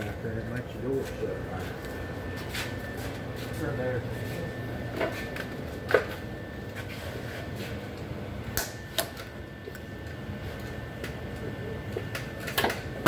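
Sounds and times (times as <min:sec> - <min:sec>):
steady shop hum: 0:00.0 - 0:13.0.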